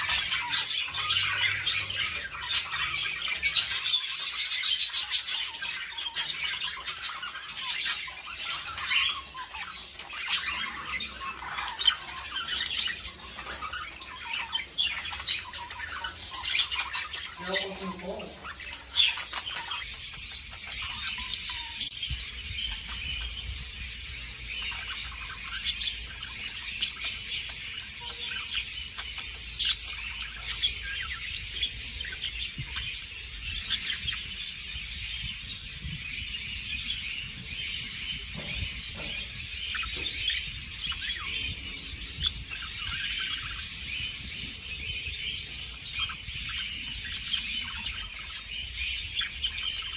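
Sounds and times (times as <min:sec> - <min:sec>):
budgerigars chirping: 0:00.0 - 0:49.9.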